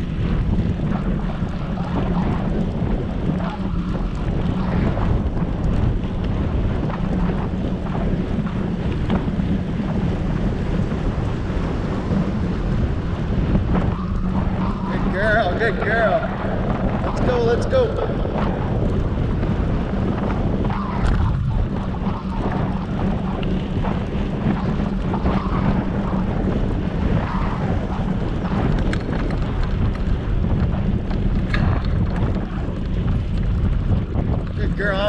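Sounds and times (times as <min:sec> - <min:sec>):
bicycle tyres rolling on pavement: 0:00.0 - 0:35.0
wind rushing over microphone: 0:00.0 - 0:35.0.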